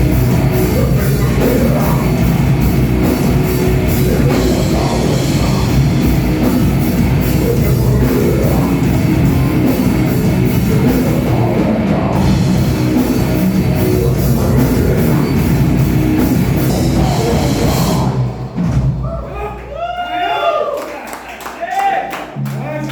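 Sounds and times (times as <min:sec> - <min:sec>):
heavily distorted guitar: 0:00.0 - 0:19.0
fast dense drum kit playing: 0:00.0 - 0:19.6.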